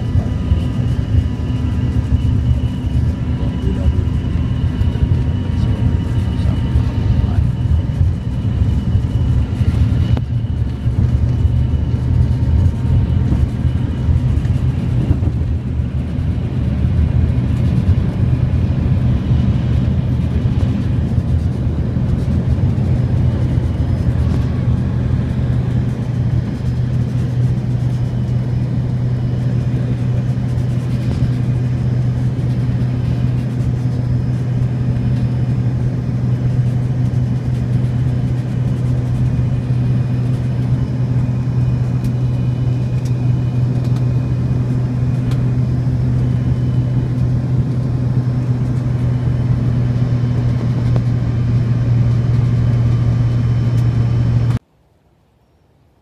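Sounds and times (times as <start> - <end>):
jet engines rumbling in cabin: 0.0 - 54.7.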